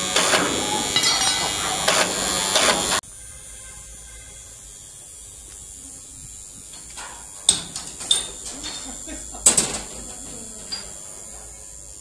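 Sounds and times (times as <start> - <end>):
faint high whine: 0.0 - 12.0
loud machine buzz with whine: 0.0 - 12.0.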